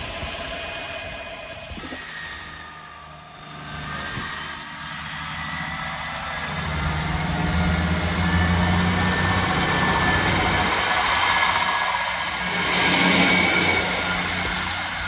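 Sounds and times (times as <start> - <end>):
diesel train engine rumble: 0.0 - 15.0.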